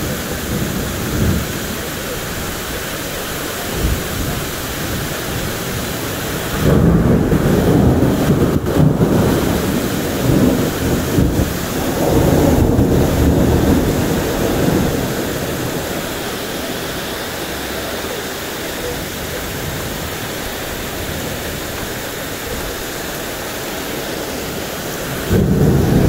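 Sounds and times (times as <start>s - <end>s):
thunder rolling: 0.0s - 17.3s, 18.8s - 26.0s
steady rain hiss: 0.0s - 26.0s.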